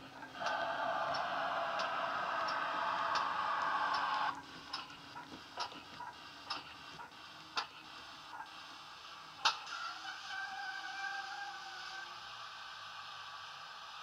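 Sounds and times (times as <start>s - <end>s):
steady hiss from speaker: 0.0s - 14.0s.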